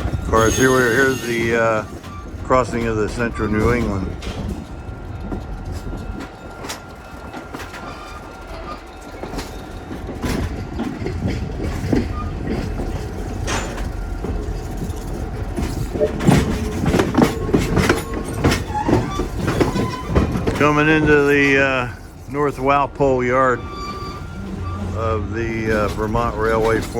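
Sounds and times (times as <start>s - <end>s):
railroad car rumble: 0.0s - 26.9s
train wheels clacking over rail joints: 0.0s - 26.9s.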